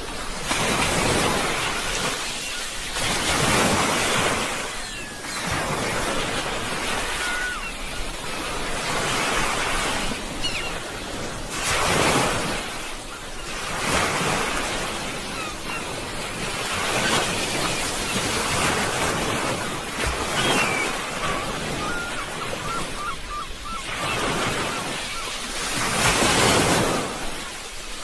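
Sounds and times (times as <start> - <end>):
sea waves breaking: 0.0 - 28.0.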